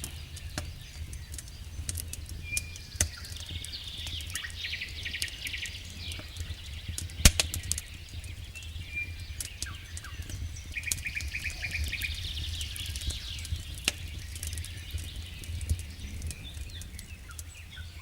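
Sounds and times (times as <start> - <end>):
fireplace crackling and popping: 0.0 - 18.0
low fire rumble: 0.0 - 18.0.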